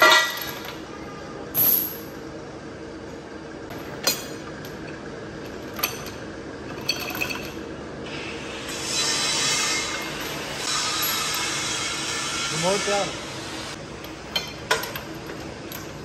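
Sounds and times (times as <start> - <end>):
workshop machine hum: 0.0 - 16.0.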